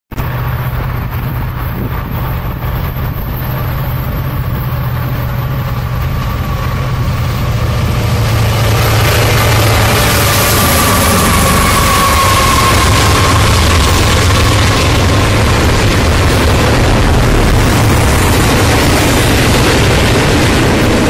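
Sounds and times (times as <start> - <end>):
diesel locomotive engine drone: 0.1 - 21.0
wheel and rail noise: 0.1 - 21.0
faint high whine: 0.2 - 18.2.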